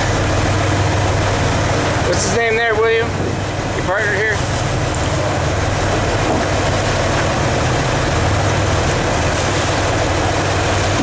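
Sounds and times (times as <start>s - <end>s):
boat engine droning: 0.0s - 11.0s
water rushing: 0.0s - 11.0s
wind: 0.0s - 11.0s.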